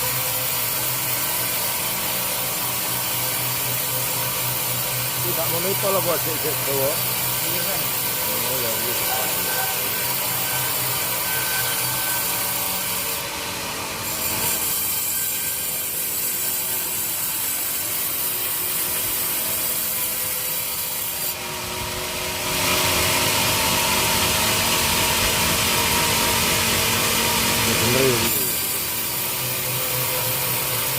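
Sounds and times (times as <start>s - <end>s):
sawmill saw cutting wood: 0.0s - 30.9s.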